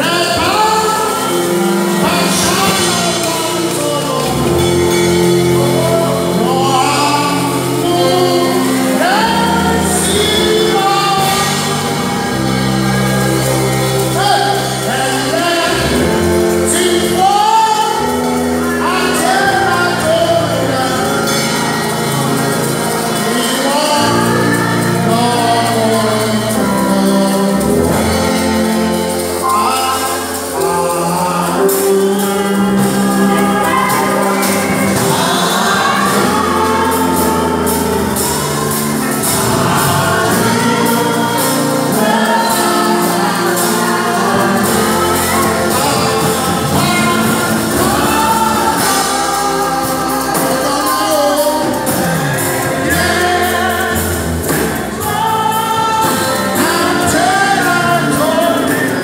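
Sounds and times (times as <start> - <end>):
band with drums: 0.0 - 59.0
choir singing: 0.0 - 59.0
man singing into microphone: 0.0 - 59.0.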